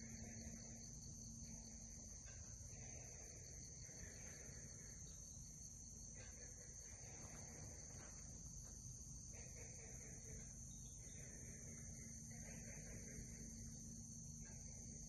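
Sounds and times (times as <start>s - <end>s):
crickets trilling: 0.0s - 15.0s
faint wavering sounds: 0.0s - 15.0s.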